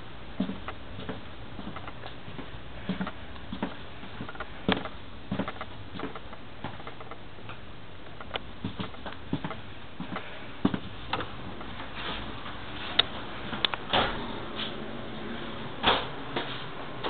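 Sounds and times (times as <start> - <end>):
low steady background hiss: 0.0 - 17.0
footsteps: 0.4 - 14.9, 15.8 - 16.8.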